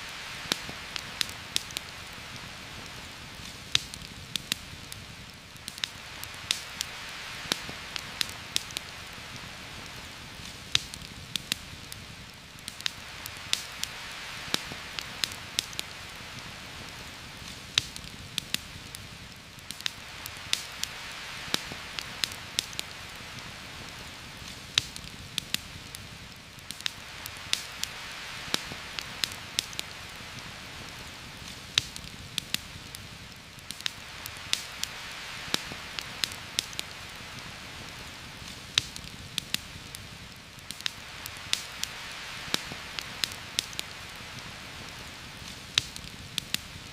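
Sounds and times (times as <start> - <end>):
heavy rain on foliage: 0.0 - 46.9
sharp pops and ticks: 0.1 - 46.9.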